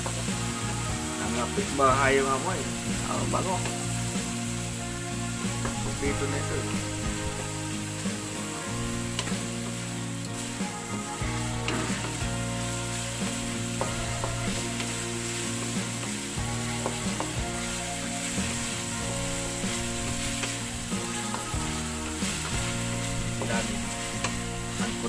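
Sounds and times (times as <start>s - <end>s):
food sizzling in hot oil: 0.0s - 25.0s
wooden spatula scraping wok: 0.0s - 25.0s.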